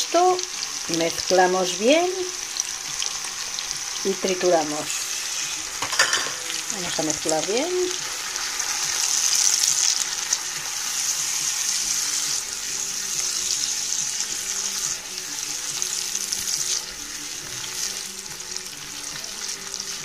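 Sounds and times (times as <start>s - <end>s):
onions sizzling in a frying pan: 0.0s - 20.0s.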